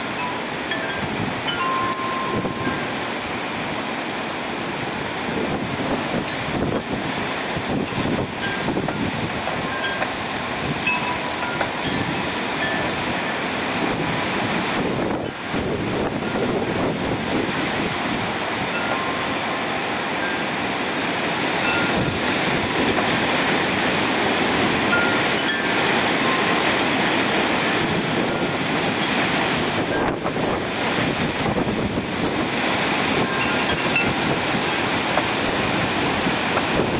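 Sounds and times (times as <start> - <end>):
strong storm wind rushing: 0.0 - 3.8, 4.5 - 36.9
wind buffeting microphone: 0.0 - 3.8, 4.6 - 36.9.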